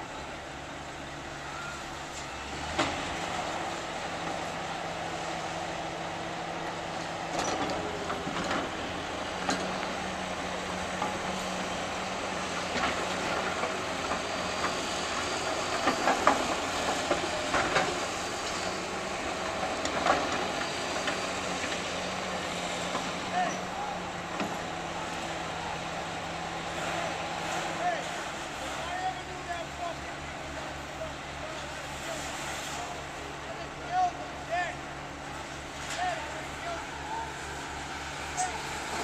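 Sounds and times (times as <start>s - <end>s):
diesel machinery running: 0.0s - 39.0s.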